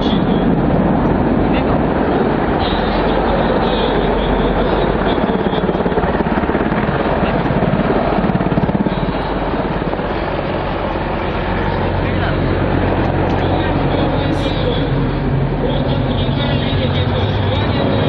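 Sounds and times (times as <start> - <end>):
helicopter rotor beating: 0.0 - 18.0.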